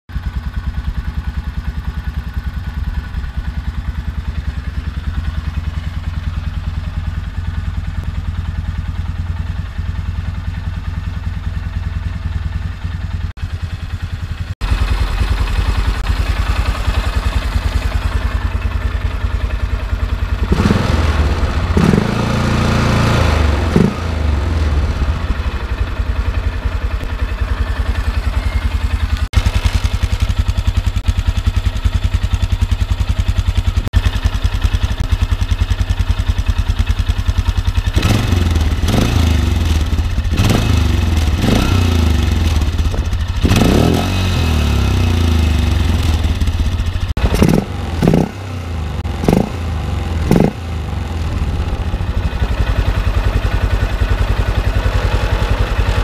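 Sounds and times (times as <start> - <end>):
atv engine idling and revving: 0.1 - 56.0.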